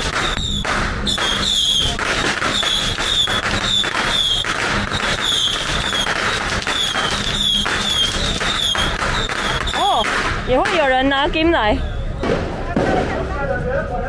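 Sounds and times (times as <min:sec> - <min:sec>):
crowd noise: 0:00.0 - 0:14.0
firecrackers crackling: 0:00.0 - 0:14.0.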